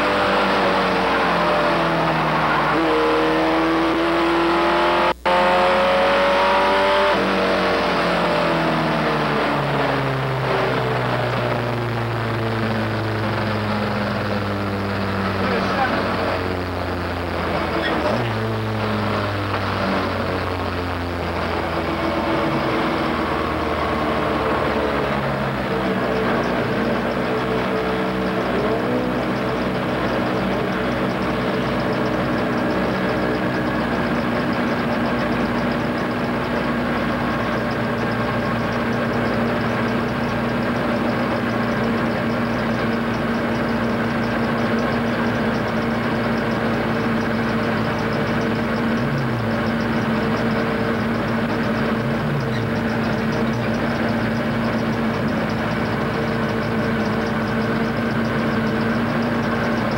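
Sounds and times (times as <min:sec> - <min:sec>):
truck engine idling: 0:08.4 - 0:59.9.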